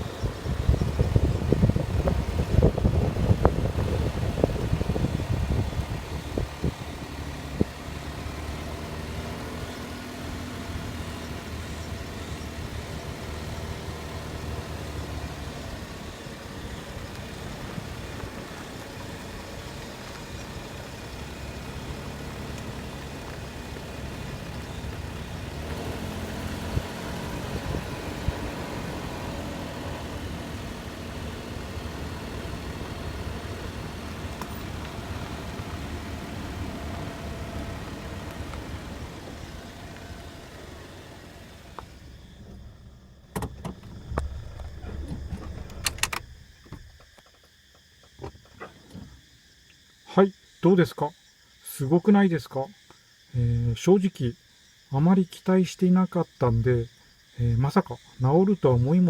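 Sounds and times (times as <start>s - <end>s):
car engine running: 0.0s - 47.4s.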